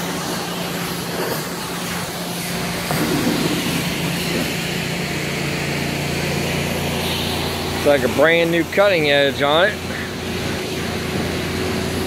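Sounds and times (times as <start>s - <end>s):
diesel engine idling: 0.4s - 12.0s.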